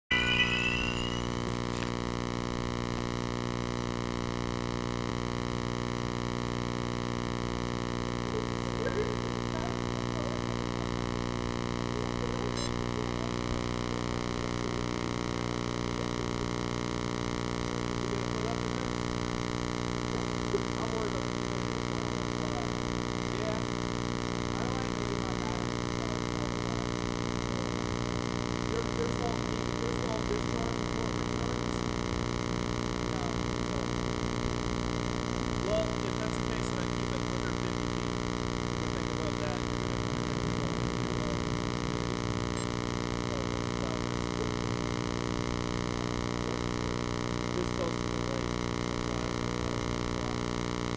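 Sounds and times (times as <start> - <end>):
electrical hum: 0.0 - 50.9.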